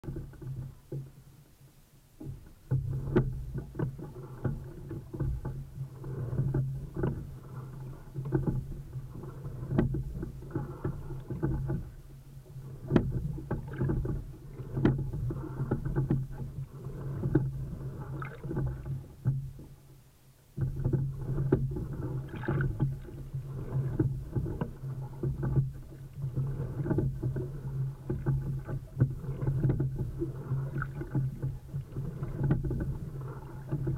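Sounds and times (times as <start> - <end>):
oars and rigging knocking: 0.0 - 1.5, 2.2 - 33.9
water running along hull: 0.0 - 33.9.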